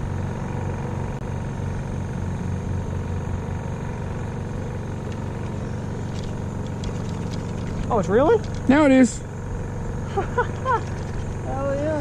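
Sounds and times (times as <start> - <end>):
small boat engine idling: 0.0 - 12.0.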